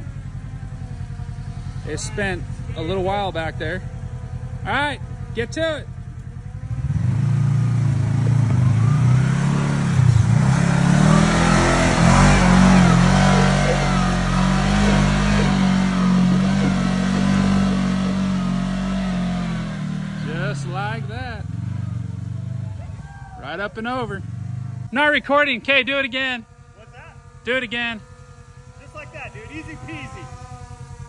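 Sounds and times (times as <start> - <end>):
utility vehicle engine revving: 0.0 - 31.0.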